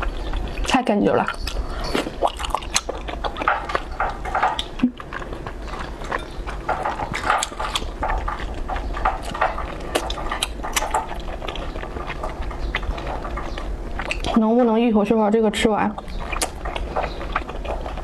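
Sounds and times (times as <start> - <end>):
chewing smacks and clicks: 0.0 - 14.9, 15.8 - 18.0.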